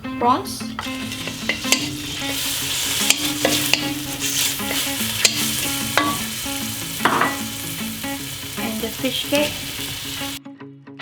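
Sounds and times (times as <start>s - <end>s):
prawns sizzling in a wok: 0.4s - 10.4s
utensil scraping a wok: 0.7s - 10.4s.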